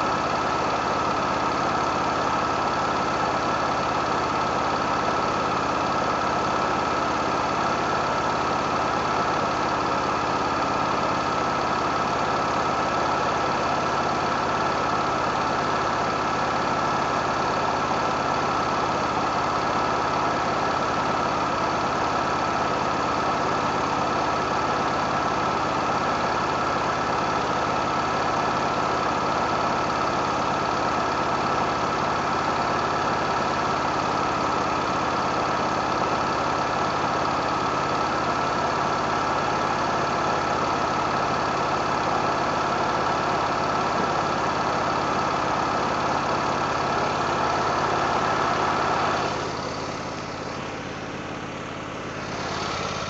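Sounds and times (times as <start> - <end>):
lawn mower engine running: 0.0 - 53.0.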